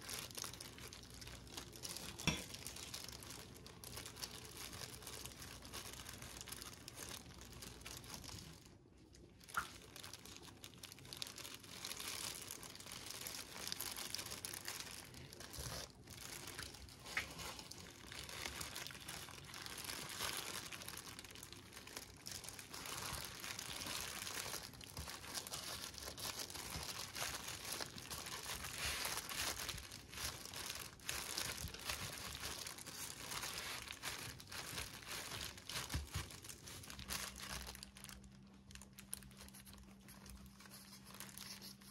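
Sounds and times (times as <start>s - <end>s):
plastic gloves crinkling: 0.0s - 41.9s.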